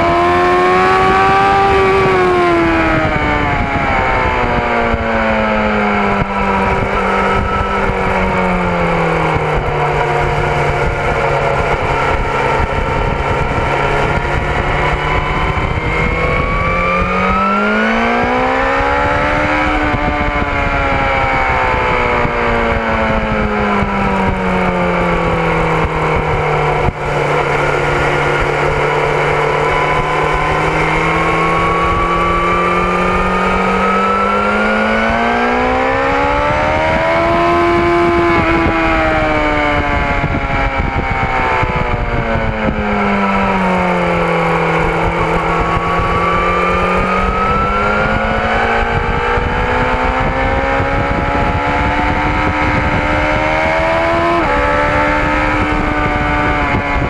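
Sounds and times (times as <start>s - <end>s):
motorcycle engine revving: 0.0s - 57.0s
wind rushing: 0.0s - 57.0s.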